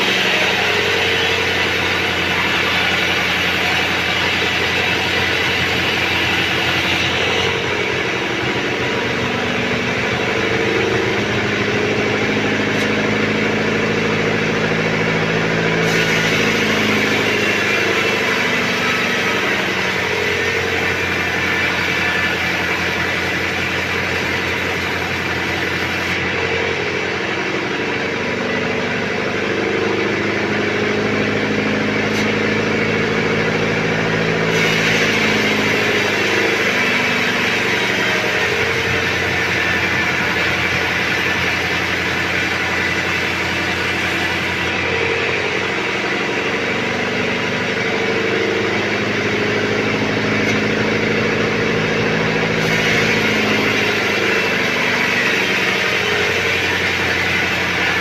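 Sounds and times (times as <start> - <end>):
high sawing noise: 0.0 - 27.9, 29.4 - 46.9, 47.7 - 58.0
sawmill engine running: 0.0 - 58.0.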